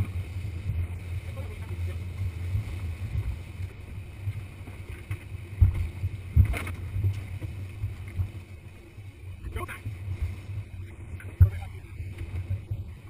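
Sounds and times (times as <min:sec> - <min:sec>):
outboard motors running: 0:00.0 - 0:13.0
water rushing past hull: 0:00.0 - 0:13.0.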